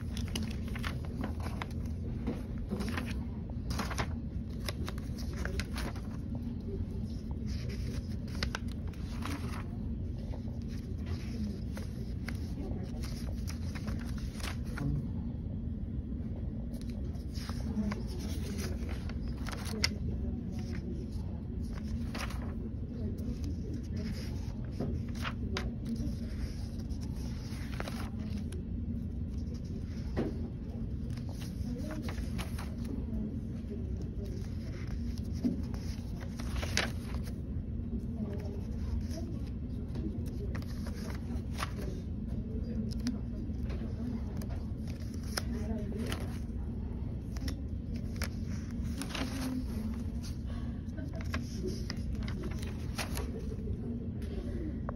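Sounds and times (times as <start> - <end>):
notebook pages turning: 0.0 - 15.0, 16.7 - 50.5, 51.1 - 53.7
steady low hum: 0.0 - 54.9.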